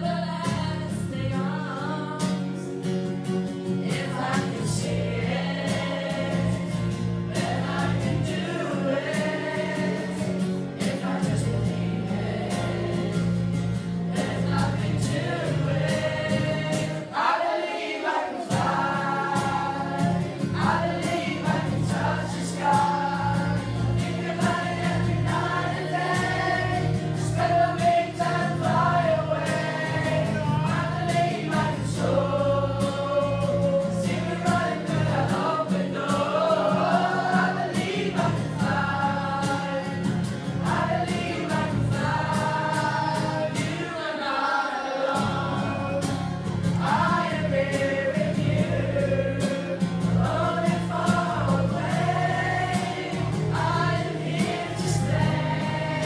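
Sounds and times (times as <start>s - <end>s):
acoustic guitar: 0.0s - 56.0s
young voices singing together: 0.0s - 56.0s.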